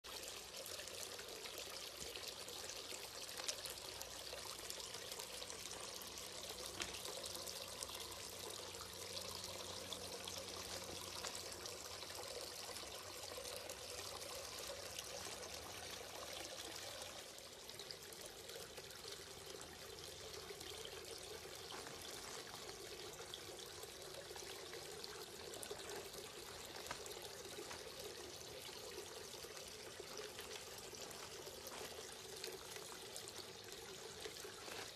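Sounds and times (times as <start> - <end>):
fountain water trickling and splashing: 0.0 - 34.9.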